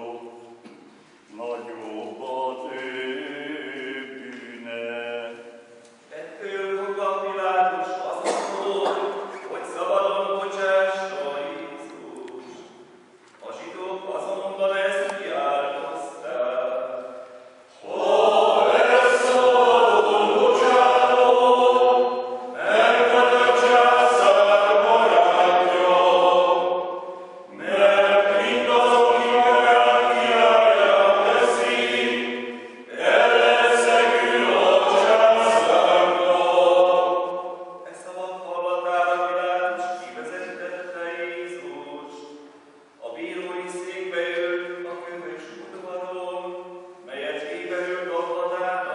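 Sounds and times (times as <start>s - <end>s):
men's choir singing a hymn: 0.0s - 12.8s, 13.4s - 42.4s, 43.0s - 48.9s.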